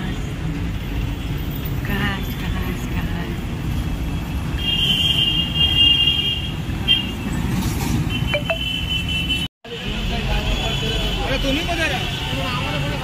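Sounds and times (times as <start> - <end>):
heavy road traffic rumble: 0.0 - 13.0.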